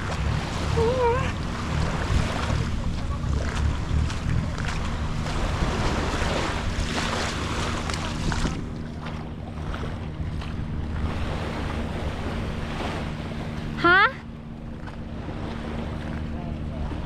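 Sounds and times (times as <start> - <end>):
wind on microphone: 0.0 - 13.8
boat engine running: 0.0 - 17.0
waves washing in: 0.0 - 17.0.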